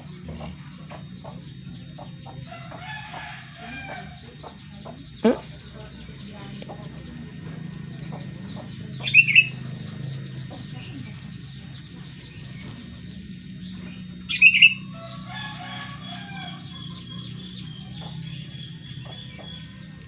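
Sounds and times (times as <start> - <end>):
birds chirping: 0.0 - 20.0
low hum: 0.0 - 20.0.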